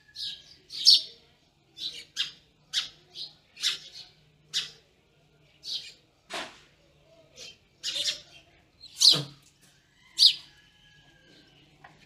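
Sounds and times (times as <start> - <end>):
birds chirping: 0.0 - 6.2, 6.8 - 12.0.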